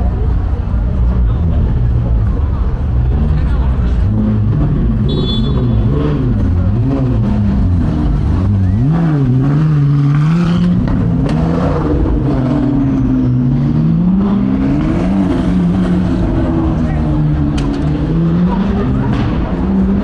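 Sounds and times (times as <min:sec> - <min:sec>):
sports car engine revving: 0:02.3 - 0:20.0.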